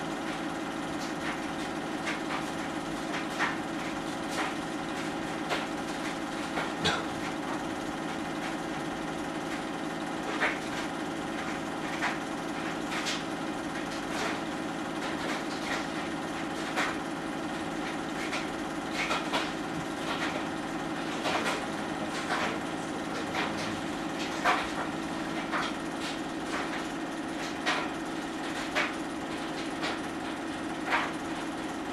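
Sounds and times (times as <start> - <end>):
film projector humming: 0.0 - 31.9.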